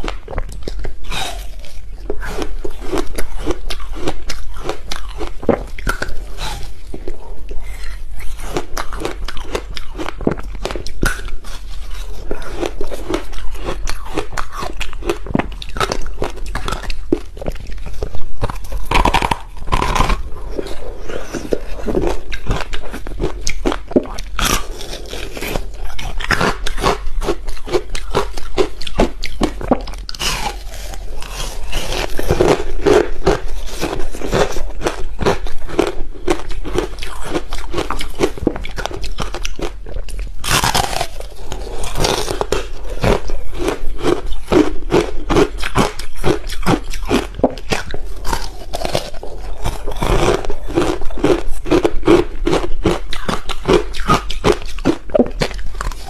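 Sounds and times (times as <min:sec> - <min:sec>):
ice crunching when chewed: 0:00.0 - 0:56.0.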